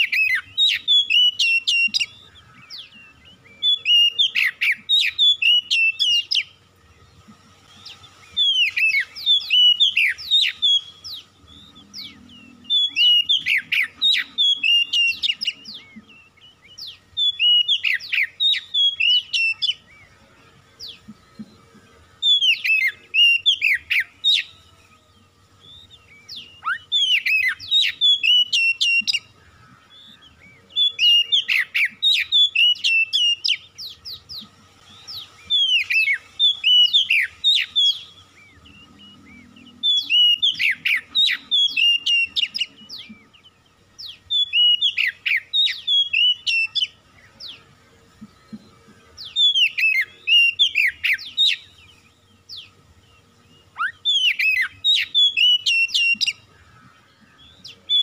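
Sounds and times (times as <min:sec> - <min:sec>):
bird singing whistles and clicks: 0:00.0 - 0:06.5, 0:07.6 - 0:19.8, 0:22.2 - 0:24.5, 0:25.7 - 0:29.3, 0:30.0 - 0:47.6, 0:48.2 - 0:51.7, 0:53.7 - 0:56.4.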